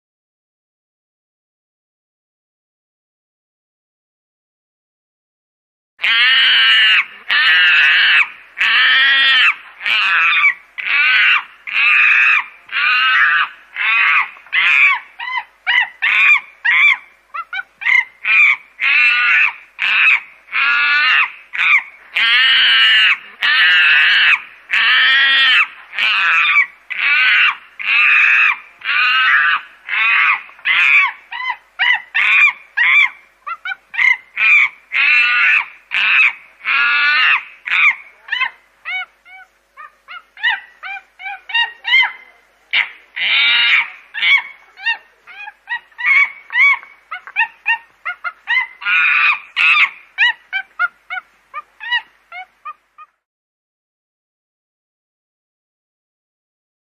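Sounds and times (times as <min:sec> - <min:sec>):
chimpanzees screaming: 0:06.0 - 0:53.2.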